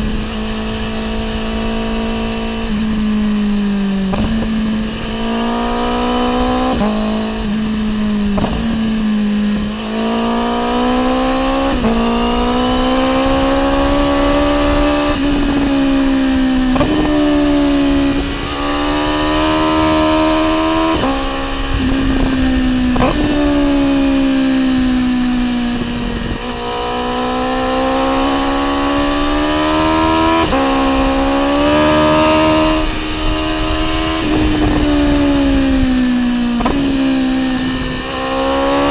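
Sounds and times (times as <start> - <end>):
exhaust crack at gear shift: 0.0 - 38.9
motorcycle engine revving: 0.0 - 38.9
wind noise: 0.0 - 38.9.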